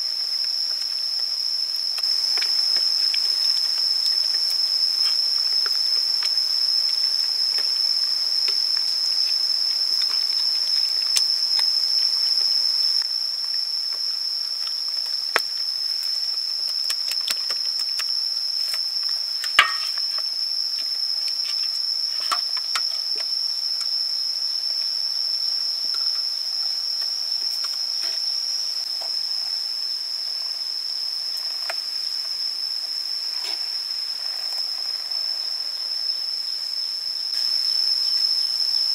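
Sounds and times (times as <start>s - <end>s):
high-pitched insect buzz: 0.0s - 38.9s.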